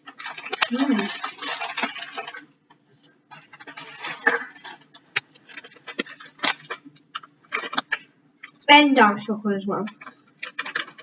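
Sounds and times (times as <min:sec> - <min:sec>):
plastic packet crinkling: 0:00.0 - 0:02.7, 0:03.3 - 0:08.6, 0:09.9 - 0:11.0.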